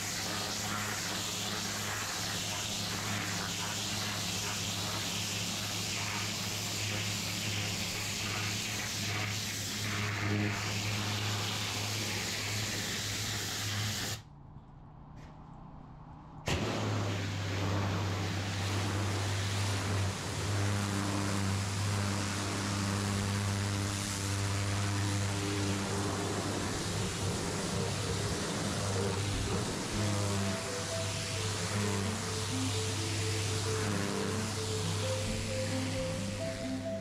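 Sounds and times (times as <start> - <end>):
pressure washer machine drone: 0.0 - 14.2, 16.5 - 37.0
pressure washer spray hiss: 0.0 - 14.2, 16.5 - 36.9.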